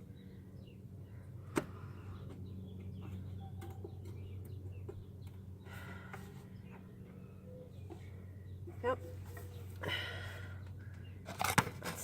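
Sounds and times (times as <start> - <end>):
birds chirping: 0.0 - 11.3
steady low hum: 0.0 - 11.9.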